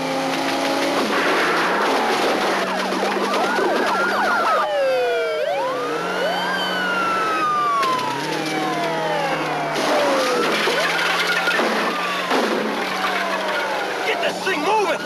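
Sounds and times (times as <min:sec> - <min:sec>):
car engines humming: 0:00.0 - 0:15.0
police sirens wailing: 0:00.0 - 0:15.0.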